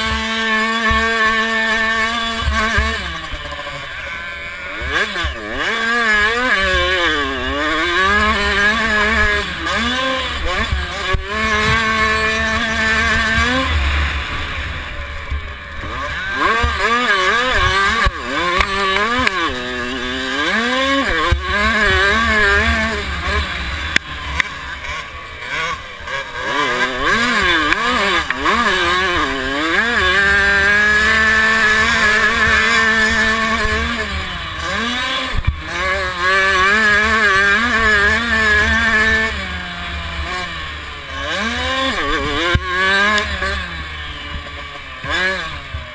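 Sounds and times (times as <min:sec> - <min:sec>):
two-stroke motorbike engine revving: 0:00.0 - 0:45.9.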